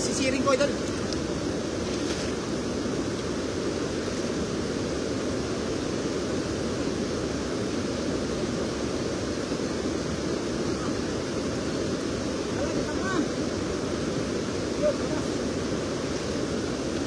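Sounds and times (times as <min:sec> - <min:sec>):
river water pouring over weir: 0:00.0 - 0:17.0.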